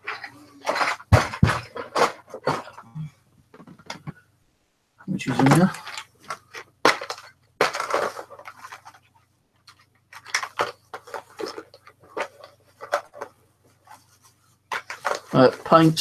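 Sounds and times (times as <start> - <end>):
packets rustling: 0.0 - 4.2, 5.2 - 16.0.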